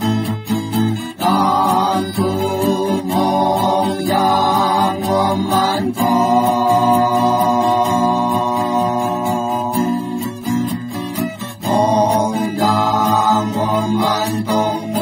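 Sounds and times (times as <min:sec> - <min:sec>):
strummed acoustic guitars: 0:00.0 - 0:15.0
men singing together: 0:01.1 - 0:10.3, 0:11.6 - 0:15.0.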